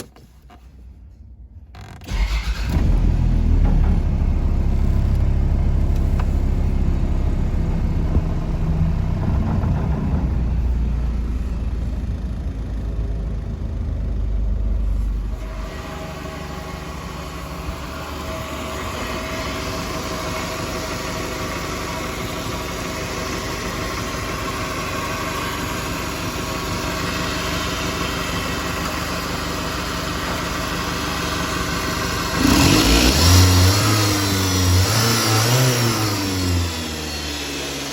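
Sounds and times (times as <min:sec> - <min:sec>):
car engine idling and revving: 0:01.4 - 0:37.9.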